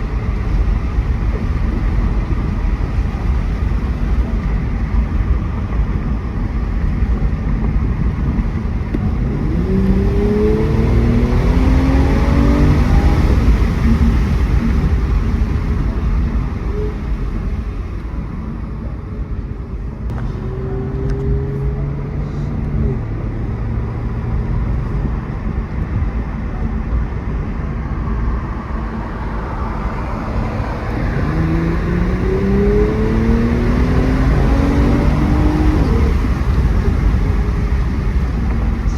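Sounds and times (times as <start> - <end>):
car engine accelerating: 0.0 - 38.9
road rumble: 0.0 - 38.9.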